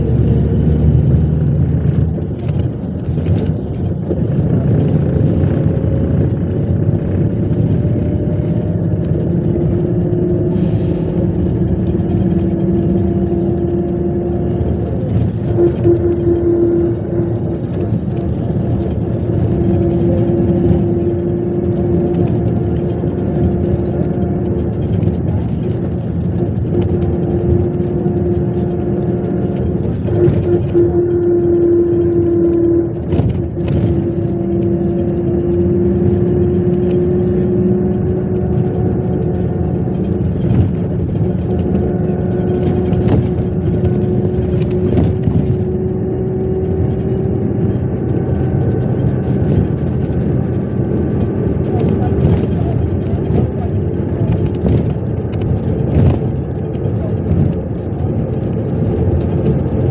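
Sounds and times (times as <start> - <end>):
bus engine and road noise: 0.0 - 59.9
rising whine: 0.0 - 59.9.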